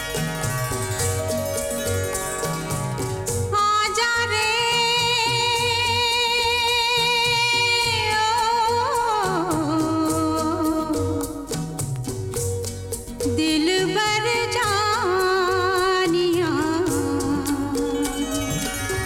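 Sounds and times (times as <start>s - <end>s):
rhythmic instrumental accompaniment: 0.0s - 19.0s.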